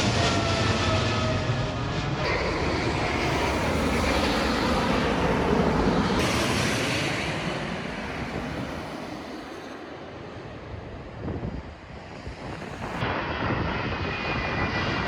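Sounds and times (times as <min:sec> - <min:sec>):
jet engines passing by: 0:00.0 - 0:15.0.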